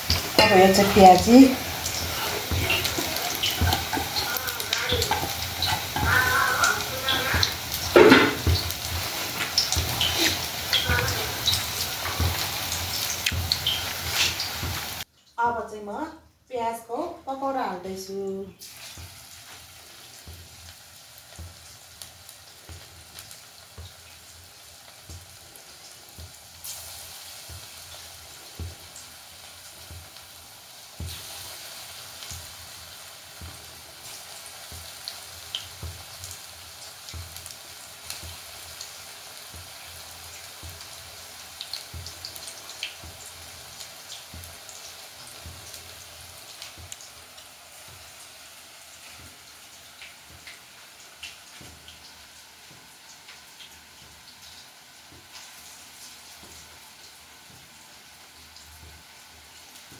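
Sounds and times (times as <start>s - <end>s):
deep-frying sizzle in oil: 0.0s - 59.9s.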